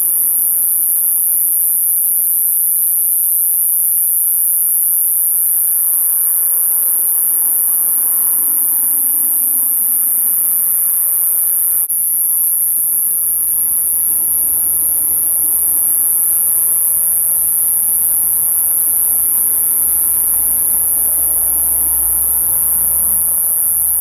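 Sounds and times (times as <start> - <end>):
katydid high-pitched buzz: 0.0 - 24.0.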